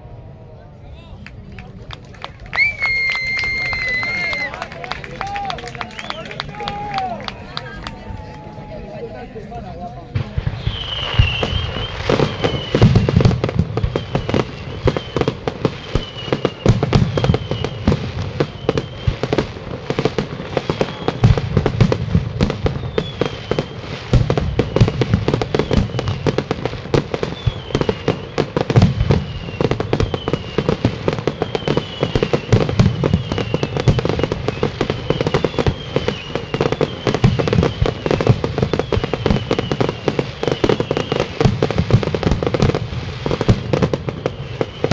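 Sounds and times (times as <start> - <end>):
fireworks bangs and crackles: 1.6 - 44.9.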